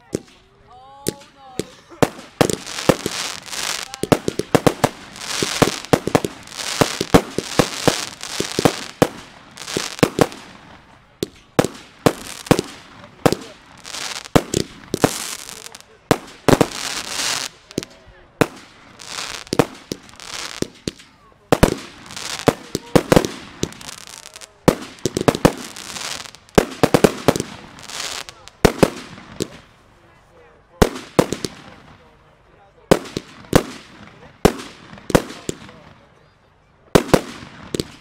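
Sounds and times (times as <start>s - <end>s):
fireworks bangs and crackle: 0.0s - 29.8s, 30.7s - 36.2s, 36.8s - 38.0s.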